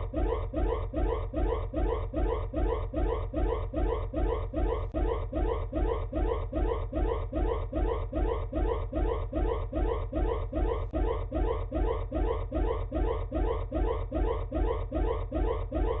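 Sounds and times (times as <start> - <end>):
electronic rising sweep alarm: 0.0 - 16.0.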